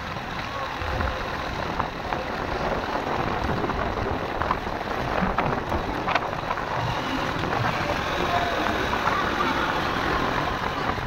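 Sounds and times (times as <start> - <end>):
tyres rushing on gravel: 0.0 - 11.0.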